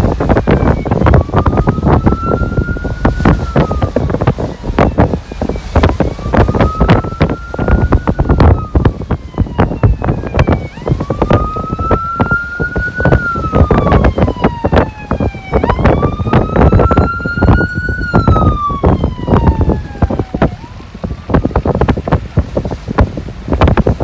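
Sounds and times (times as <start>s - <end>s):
emergency siren wailing: 0.0s - 23.0s
wind buffeting microphone: 0.0s - 24.0s.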